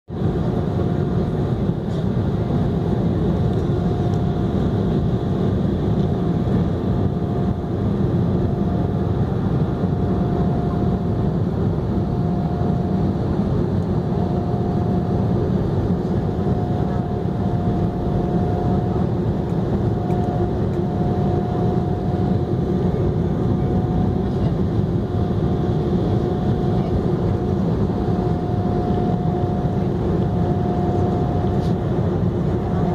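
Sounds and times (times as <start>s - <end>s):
jet engine roar in cabin: 0.1s - 32.9s
faint high hum: 0.2s - 32.9s.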